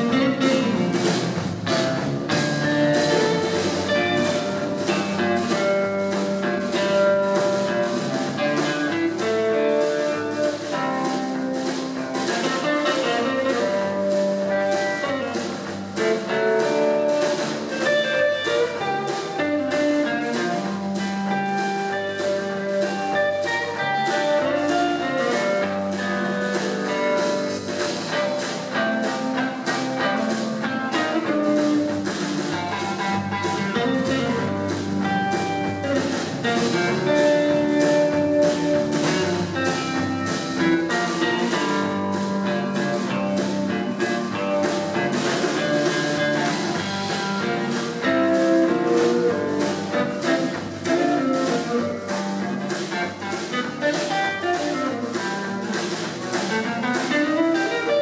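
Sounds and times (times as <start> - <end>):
bass: 0.0 - 58.0
drum kit: 0.0 - 58.0
electric guitar melody: 0.0 - 58.0.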